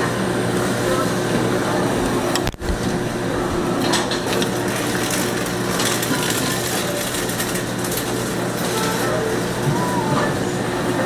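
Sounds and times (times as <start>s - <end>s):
meat slicer motor humming: 0.0s - 11.0s.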